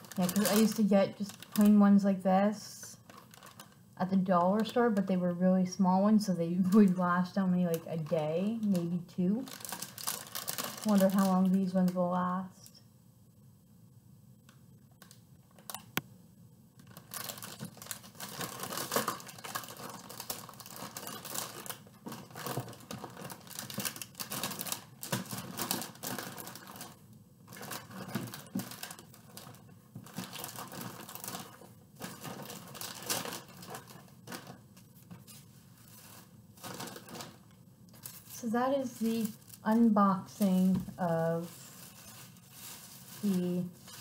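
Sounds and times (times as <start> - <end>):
plastic packaging crinkling: 0.0 - 2.2, 2.9 - 5.2, 6.3 - 12.3, 14.9 - 16.0, 16.8 - 44.0.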